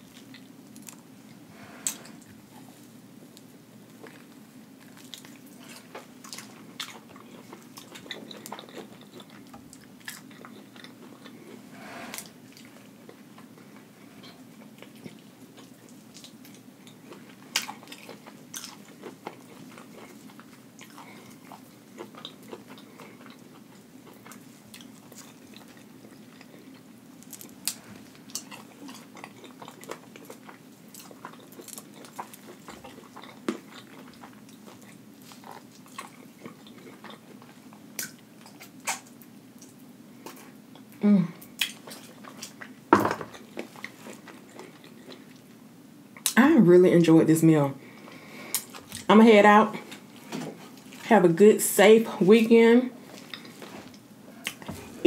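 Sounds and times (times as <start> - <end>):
crunchy chewing: 0.0 - 45.5, 53.0 - 55.0
steady low hum: 0.0 - 55.0.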